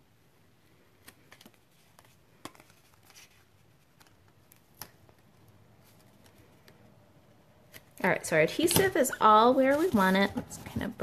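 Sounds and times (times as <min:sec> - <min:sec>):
paper rustling: 0:00.9 - 0:06.8, 0:07.7 - 0:11.0.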